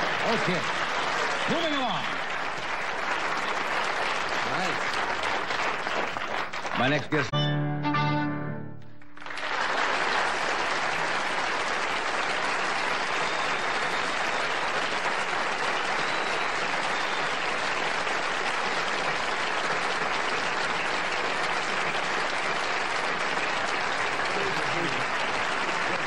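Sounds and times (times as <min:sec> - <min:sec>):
audience applauding: 0:00.0 - 0:07.3, 0:08.9 - 0:26.0.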